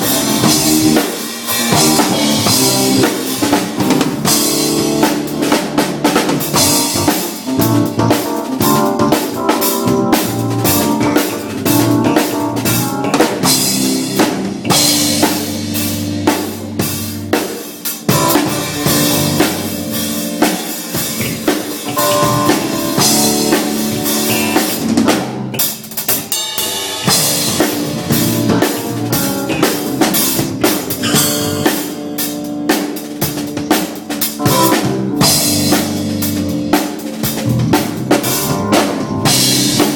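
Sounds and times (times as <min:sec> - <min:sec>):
music with busy drum beat: 0:00.0 - 0:39.9.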